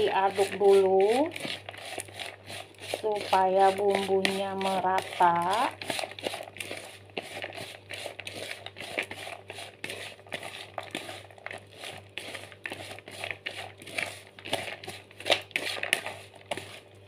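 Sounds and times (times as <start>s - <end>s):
plastic spoon stirring in a bowl: 0.0s - 17.0s.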